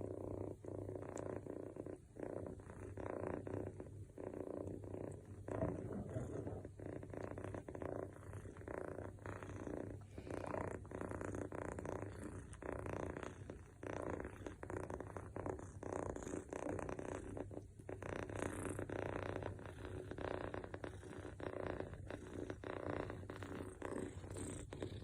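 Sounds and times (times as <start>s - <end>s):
kitten snoring: 0.0s - 25.0s.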